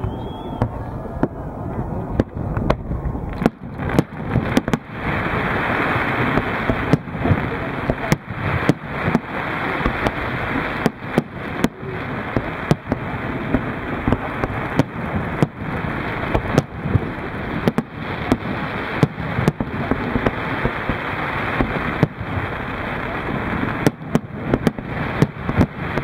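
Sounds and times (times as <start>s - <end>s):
continuous noisy din: 0.0s - 26.0s
fireworks bursting with sharp bangs: 0.0s - 26.0s.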